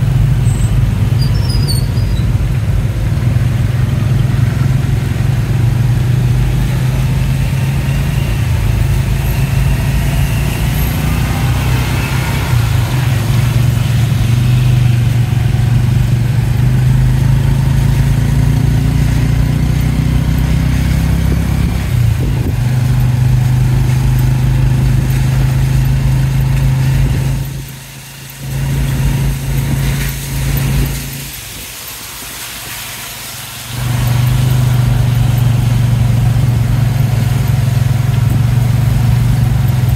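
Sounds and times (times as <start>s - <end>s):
traffic: 0.0s - 39.9s.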